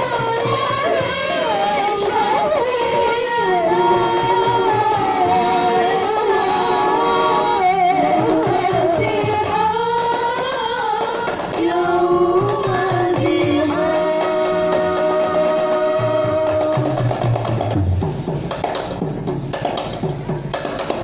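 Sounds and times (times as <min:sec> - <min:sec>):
women singing together: 0:00.0 - 0:17.3.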